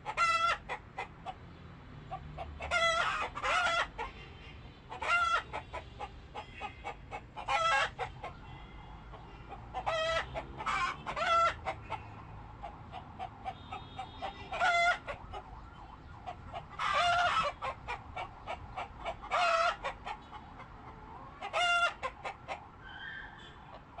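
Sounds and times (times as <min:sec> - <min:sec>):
chickens clucking and calling: 0:00.0 - 0:04.2, 0:04.9 - 0:24.0.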